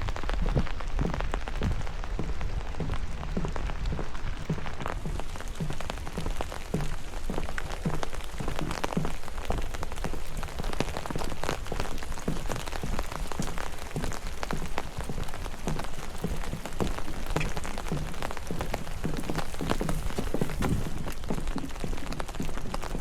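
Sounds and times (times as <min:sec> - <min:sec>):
raindrops tapping: 0:00.0 - 0:23.0
steady rain falling: 0:00.0 - 0:23.0.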